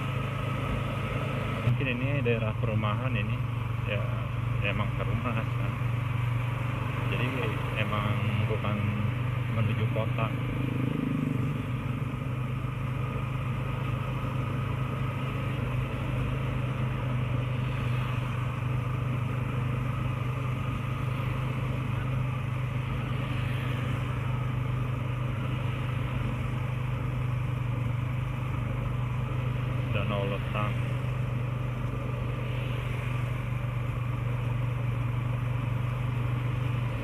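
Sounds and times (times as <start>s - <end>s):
motorcycle engine drone: 0.0s - 37.0s
wind and road noise: 0.0s - 37.0s.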